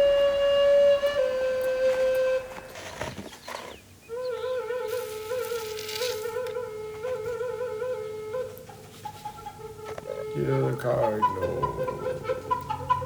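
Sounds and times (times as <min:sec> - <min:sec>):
drone flute low note with trills: 0:00.0 - 0:03.0, 0:04.1 - 0:13.0.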